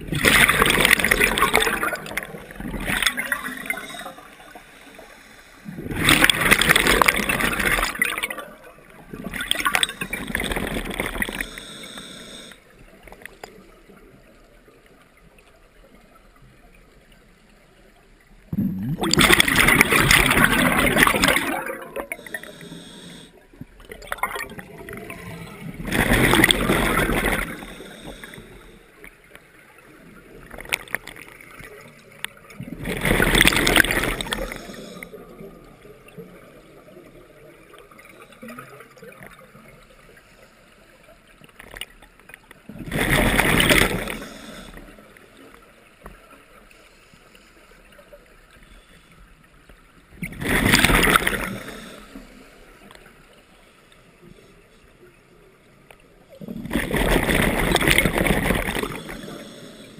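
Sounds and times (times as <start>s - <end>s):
underwater bubbles gurgling: 0.0s - 59.9s.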